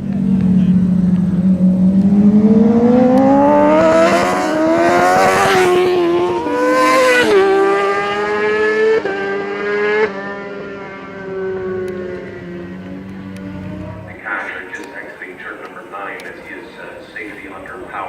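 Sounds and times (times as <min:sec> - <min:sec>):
superbike engine at high revs: 0:00.0 - 0:14.9.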